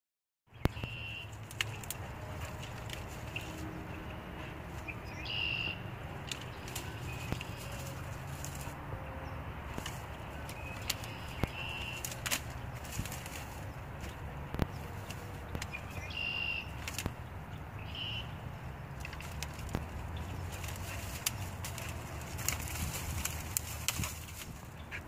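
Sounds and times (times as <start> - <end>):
twigs cracking and snapping: 0.6 - 5.4, 6.0 - 9.0, 9.6 - 17.7, 18.8 - 24.9.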